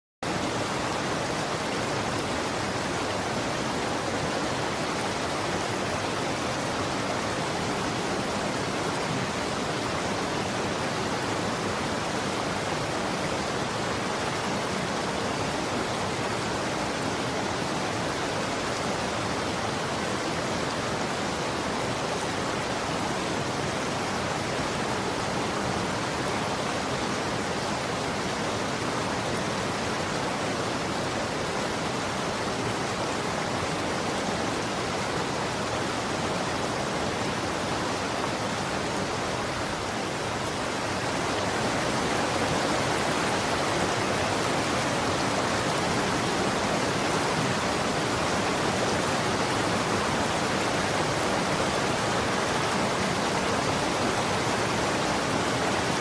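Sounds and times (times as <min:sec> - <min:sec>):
running water rushing: 0:00.2 - 0:56.0.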